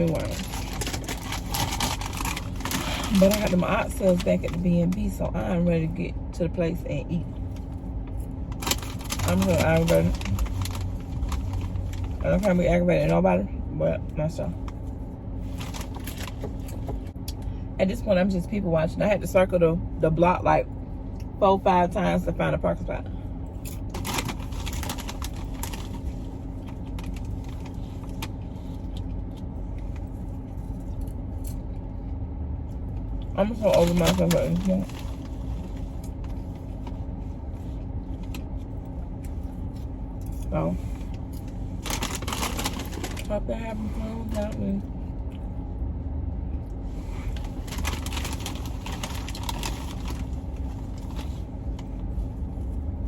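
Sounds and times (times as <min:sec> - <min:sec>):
car rumble from inside cabin: 0:00.0 - 0:53.0
faint steady hum: 0:00.0 - 0:53.0.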